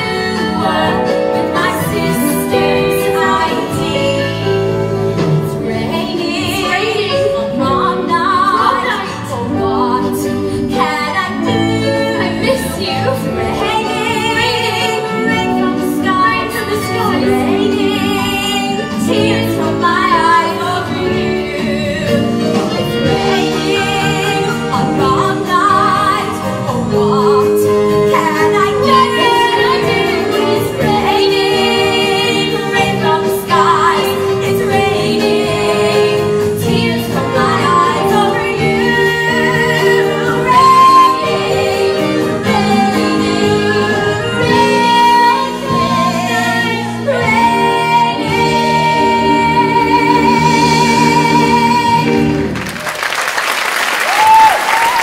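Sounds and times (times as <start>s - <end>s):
woman singing a ballad: 0.0s - 52.6s
instrumental accompaniment: 0.0s - 53.0s.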